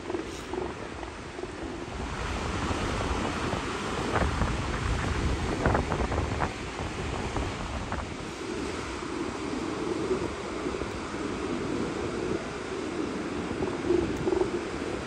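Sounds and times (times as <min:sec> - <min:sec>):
surf washing on beach: 0:00.0 - 0:15.0
wind on microphone: 0:00.0 - 0:15.0.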